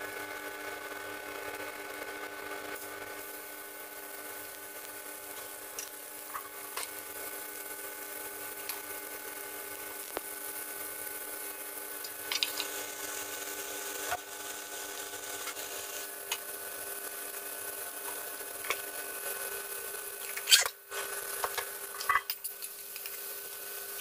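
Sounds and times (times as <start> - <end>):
seafood sizzling in a wok: 0.1 - 24.0.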